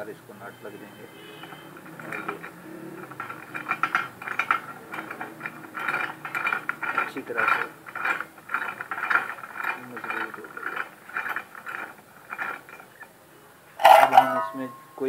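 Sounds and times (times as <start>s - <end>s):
metal screw scraping and clicking: 1.4s - 13.1s, 13.8s - 14.9s.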